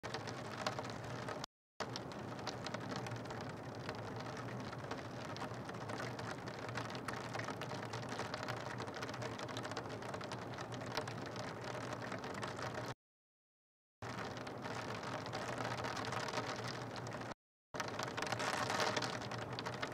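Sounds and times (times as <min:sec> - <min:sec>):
rain drops on hard surfaces: 0:00.0 - 0:13.0, 0:14.0 - 0:19.9.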